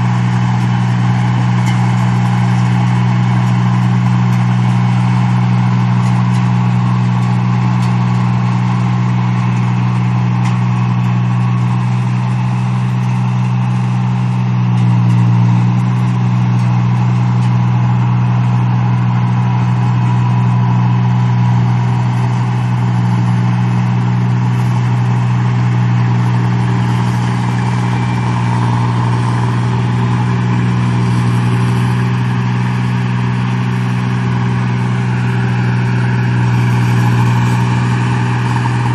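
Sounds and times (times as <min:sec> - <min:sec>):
machine engine running steadily: 0:00.0 - 0:38.9.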